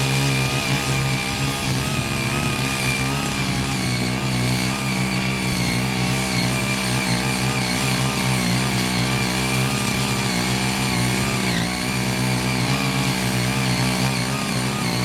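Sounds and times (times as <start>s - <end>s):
power tiller engines running: 0.0s - 15.0s
tines churning soil: 0.0s - 15.0s.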